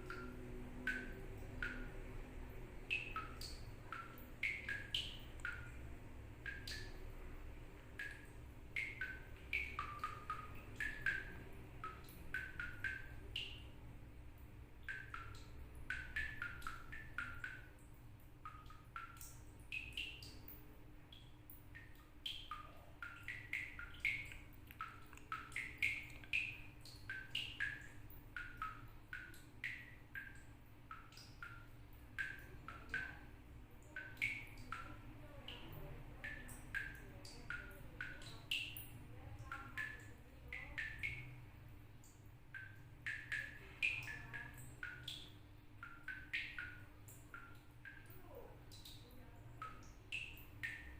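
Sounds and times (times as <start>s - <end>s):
water dripping from a tap: 0.0s - 50.9s.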